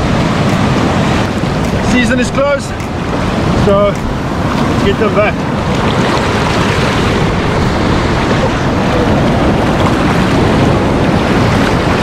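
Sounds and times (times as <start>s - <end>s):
surf washing over sand: 0.0s - 12.0s
wind rumbling on microphone: 0.0s - 12.0s.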